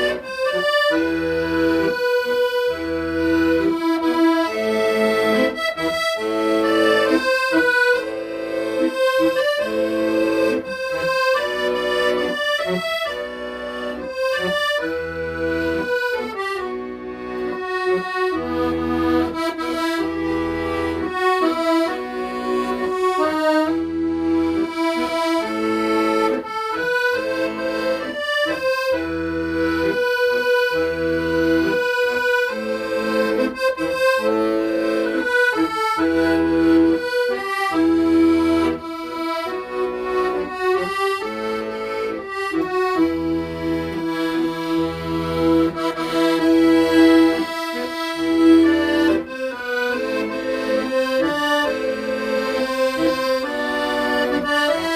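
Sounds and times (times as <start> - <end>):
accordion slow melody: 0.0 - 54.9.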